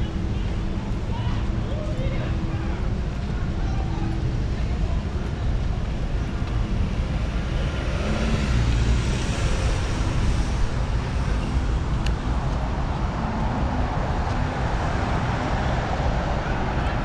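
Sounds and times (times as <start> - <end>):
street traffic passing: 0.0 - 17.0.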